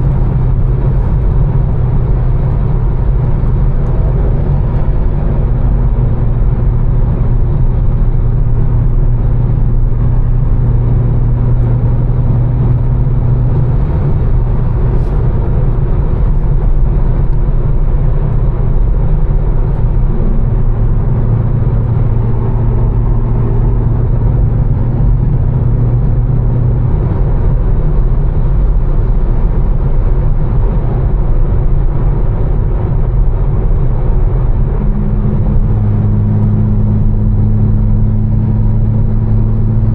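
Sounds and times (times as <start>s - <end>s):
car engine cruising drone: 0.0s - 39.9s.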